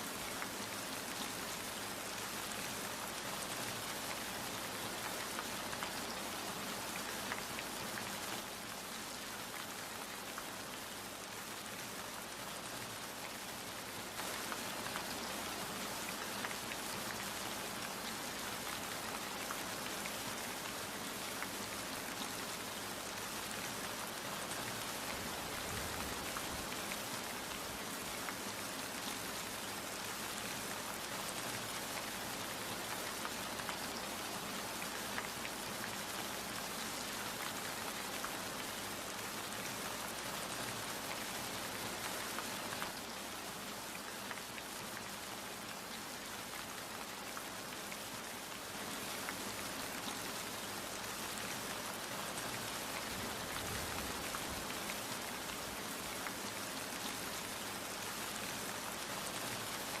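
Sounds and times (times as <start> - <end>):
rain falling: 0.0 - 60.0
raindrops pattering on surface: 0.0 - 60.0.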